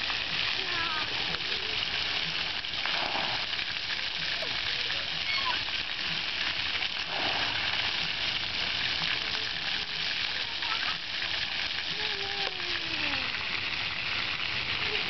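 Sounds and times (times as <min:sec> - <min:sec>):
fountain jets splashing on pavement: 0:00.0 - 0:15.0.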